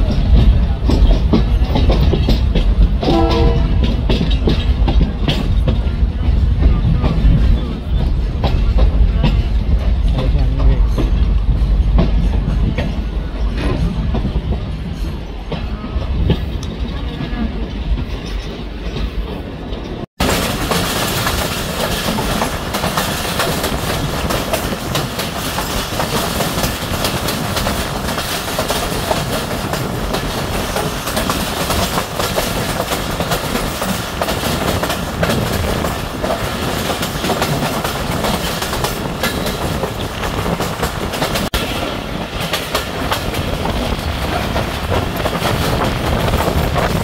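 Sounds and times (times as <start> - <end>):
train wheels clattering on rails: 0.0 - 47.0.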